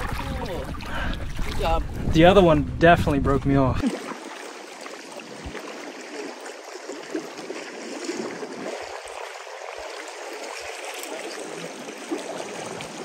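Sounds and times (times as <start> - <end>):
water trickling and rushing: 0.0 - 13.0.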